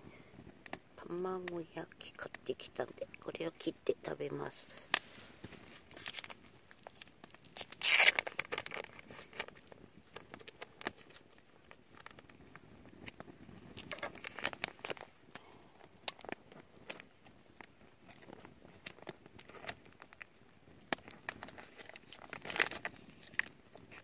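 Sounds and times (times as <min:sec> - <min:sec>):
plastic packaging crinkling and tearing: 0:04.4 - 0:24.0.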